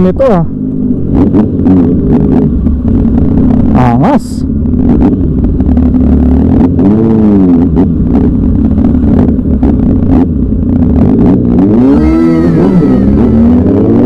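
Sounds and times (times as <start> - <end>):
motorcycle engine revving: 0.0 - 14.0
steady low rumble: 0.0 - 14.0.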